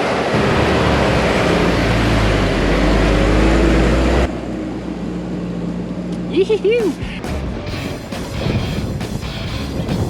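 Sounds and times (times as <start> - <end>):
engine labouring uphill: 0.0 - 10.0
steady engine drone: 0.0 - 10.0.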